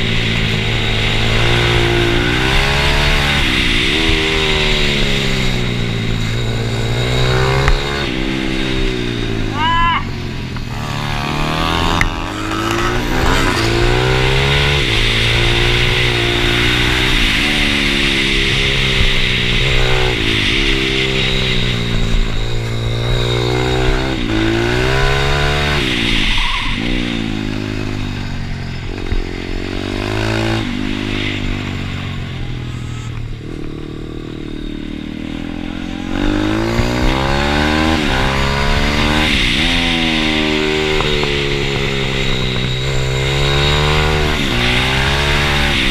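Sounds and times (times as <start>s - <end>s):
small motorbike engine revving: 0.0s - 45.9s.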